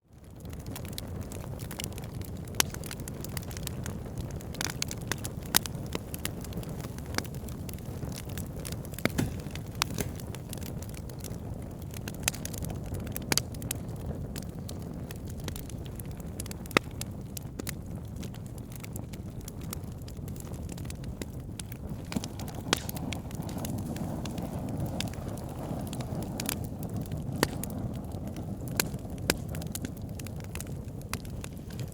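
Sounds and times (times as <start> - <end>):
wood fire crackling and popping: 0.1 - 31.9.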